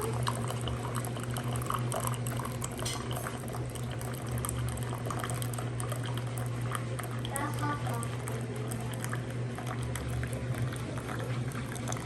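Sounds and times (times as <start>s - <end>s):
hot-water dispenser humming: 0.0s - 12.0s
water pouring into cup: 0.0s - 12.0s.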